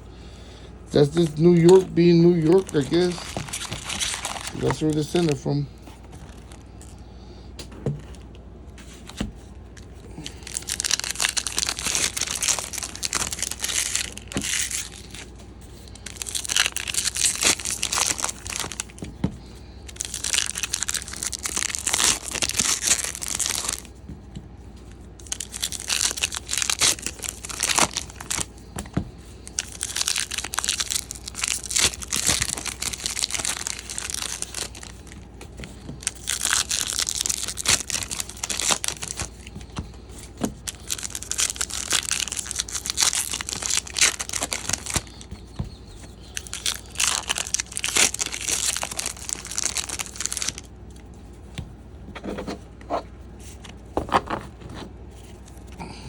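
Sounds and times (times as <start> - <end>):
plastic wrapping crinkling and tearing: 0.9 - 7.0, 8.9 - 19.2, 19.8 - 24.0, 24.9 - 51.1.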